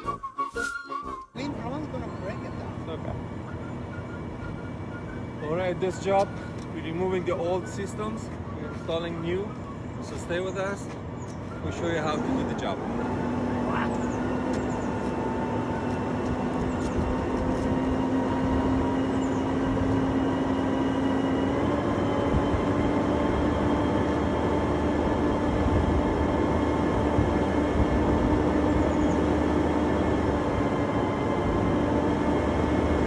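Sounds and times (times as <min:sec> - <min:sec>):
large machine droning hum: 0:01.4 - 0:33.0.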